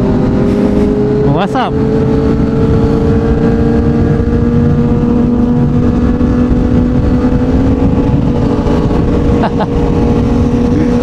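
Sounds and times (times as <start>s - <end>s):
motorcycle engine under throttle: 0.0s - 11.0s.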